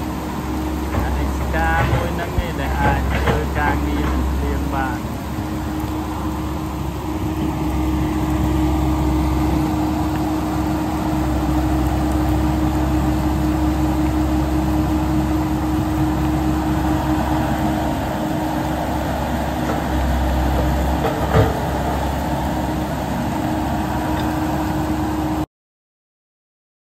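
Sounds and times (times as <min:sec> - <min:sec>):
excavator diesel engine running: 0:00.0 - 0:25.4.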